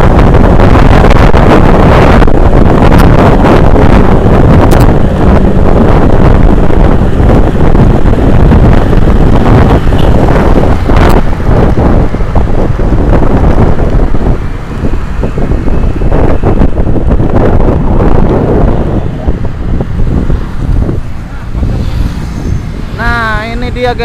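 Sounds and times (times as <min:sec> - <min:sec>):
motorcycle riding rumble: 0:00.0 - 0:24.0
wind buffeting microphone: 0:00.0 - 0:24.0.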